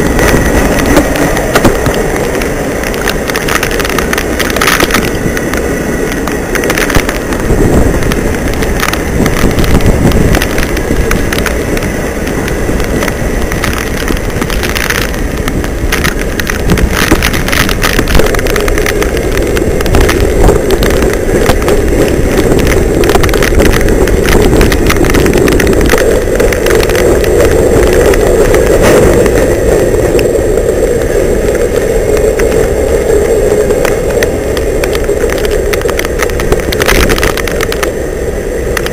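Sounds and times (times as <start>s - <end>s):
freight train wheels rumbling: 0.0s - 38.9s
train cars clicking and clunking: 0.0s - 38.9s.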